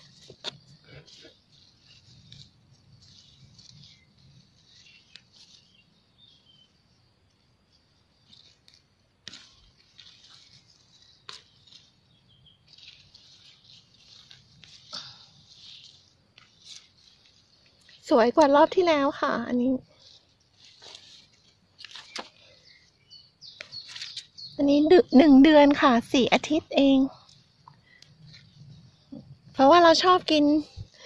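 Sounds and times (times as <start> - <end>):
leaves and dry soil rustling: 0.0 - 31.0.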